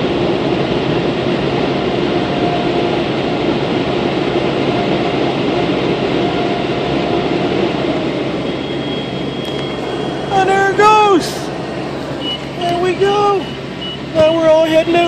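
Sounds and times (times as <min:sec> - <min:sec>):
car wash machinery rushing: 0:00.0 - 0:15.0.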